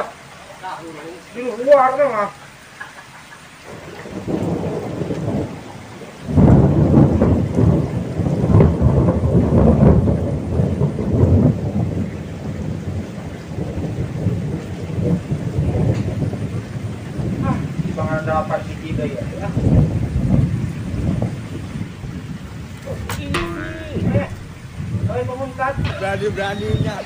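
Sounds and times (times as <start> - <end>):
heavy rain on water: 0.0 - 27.0
thunder rolling: 3.6 - 27.0.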